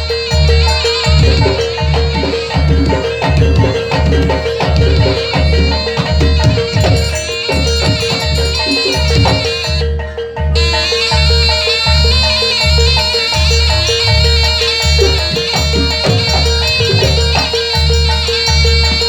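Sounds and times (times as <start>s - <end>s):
mallet percussion melody: 0.0s - 19.0s
steady drum beat: 0.0s - 19.0s.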